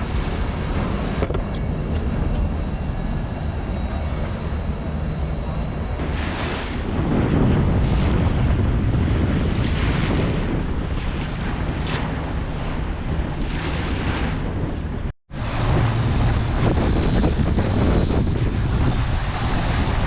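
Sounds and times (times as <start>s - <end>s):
boat noise: 0.0s - 20.0s
waves rushing: 0.0s - 20.0s
wind buffeting microphone: 0.0s - 20.0s.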